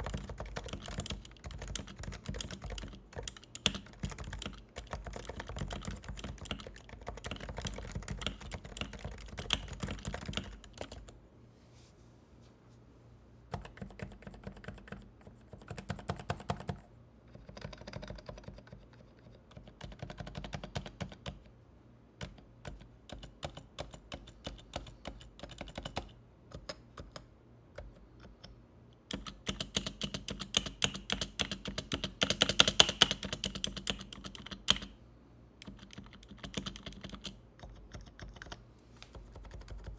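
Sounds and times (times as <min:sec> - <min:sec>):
keyboard typing: 0:00.0 - 0:11.2, 0:13.5 - 0:21.5, 0:22.2 - 0:28.5, 0:29.1 - 0:34.9, 0:35.6 - 0:39.9.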